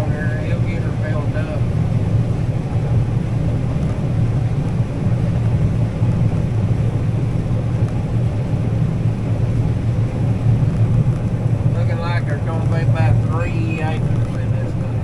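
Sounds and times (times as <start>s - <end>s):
combine engine and machinery rumble: 0.0s - 15.0s.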